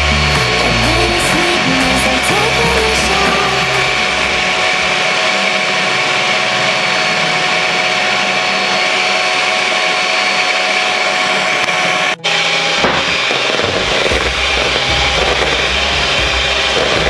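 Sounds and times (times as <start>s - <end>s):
electric hand mixer whirring: 0.0s - 17.0s.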